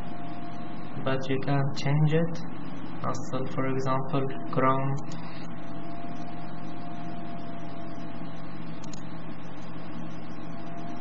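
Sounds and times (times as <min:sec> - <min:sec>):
background hum and hiss: 0:00.0 - 0:11.0
faint high whine: 0:00.0 - 0:11.0.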